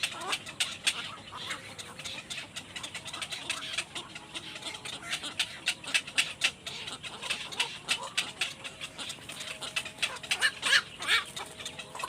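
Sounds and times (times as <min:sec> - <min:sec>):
baby birds cheeping: 0:00.0 - 0:12.0.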